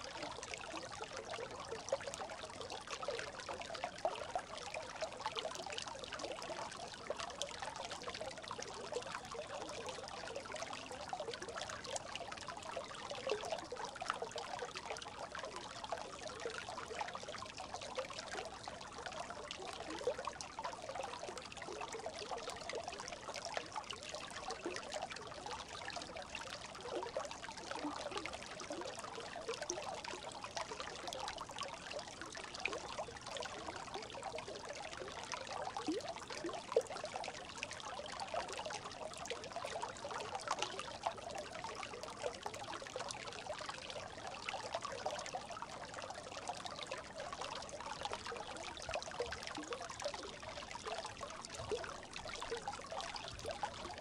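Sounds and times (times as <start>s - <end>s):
brook babbling: 0.0s - 54.0s.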